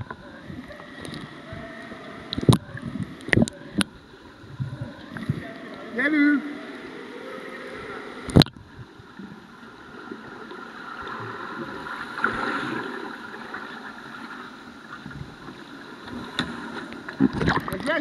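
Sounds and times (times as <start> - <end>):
muffled underwater sloshing and bubbling: 0.0 - 18.0.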